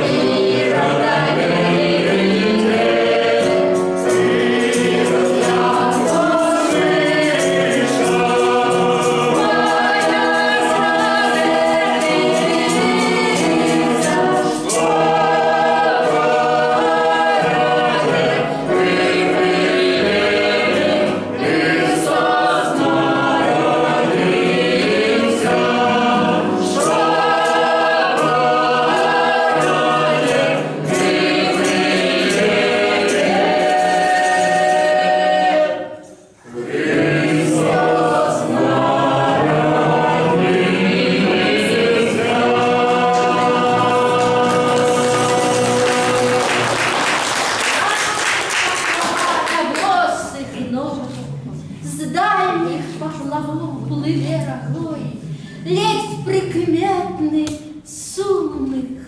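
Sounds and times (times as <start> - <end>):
mixed choir singing folk song: 0.0 - 57.8.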